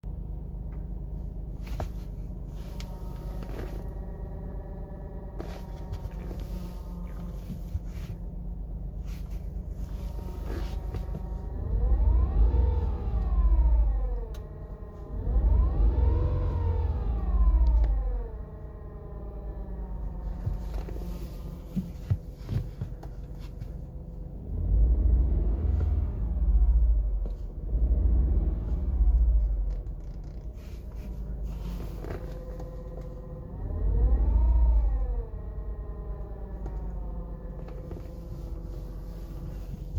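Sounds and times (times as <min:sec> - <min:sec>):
car engine humming: 0:00.0 - 0:39.9
clutch rumble: 0:00.0 - 0:39.9.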